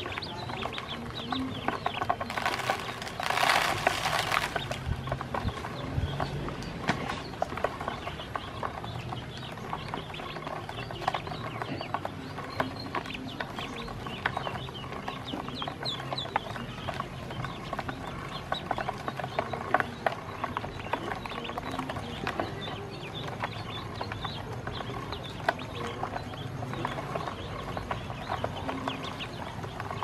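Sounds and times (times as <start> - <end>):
ducklings peeping: 0.0 - 30.0.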